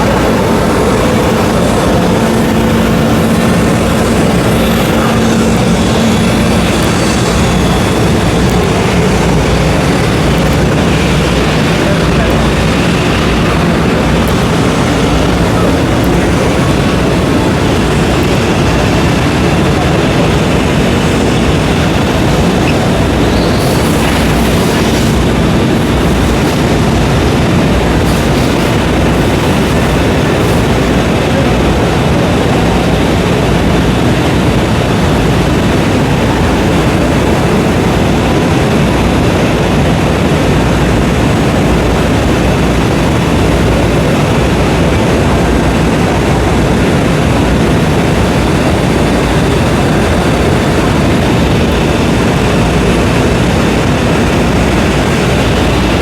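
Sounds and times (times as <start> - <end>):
busy exhibition hall din: 0.0 - 56.0
cnc router machining: 0.0 - 56.0.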